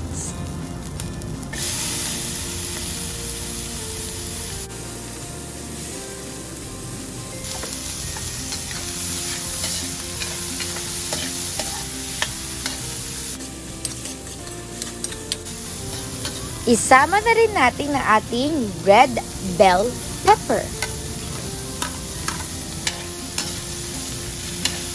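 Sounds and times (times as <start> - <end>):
vegetables sizzling in a frying pan: 0.0 - 24.9.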